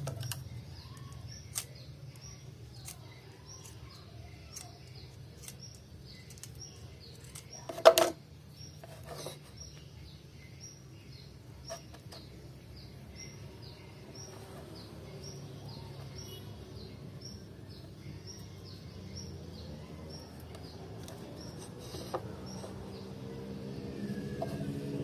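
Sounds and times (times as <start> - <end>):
small bird chirping: 0.0 - 25.0.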